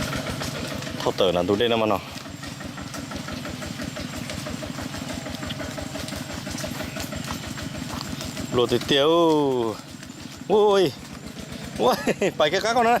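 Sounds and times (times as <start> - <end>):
small boat engine puttering: 0.0 - 13.0.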